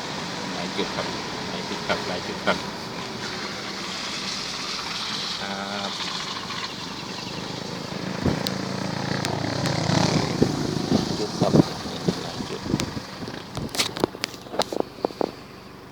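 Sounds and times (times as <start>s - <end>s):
vehicle running hum: 0.0s - 15.9s.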